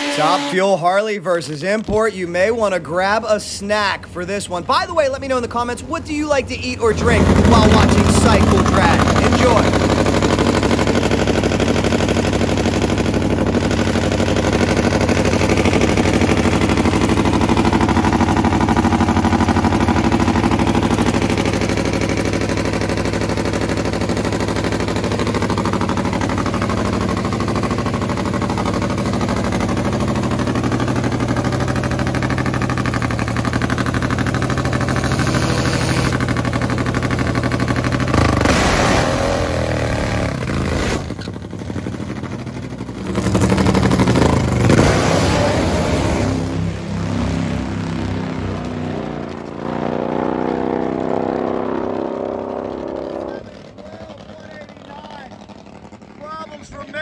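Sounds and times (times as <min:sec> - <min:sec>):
drag motorcycle engine running: 0:00.0 - 0:00.8, 0:01.6 - 0:57.0.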